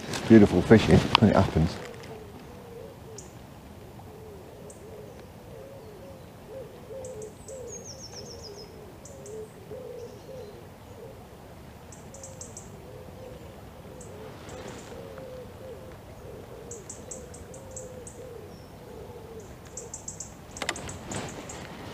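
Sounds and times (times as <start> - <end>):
bird cooing: 0.0 - 21.9
small birds chirping: 0.0 - 21.9.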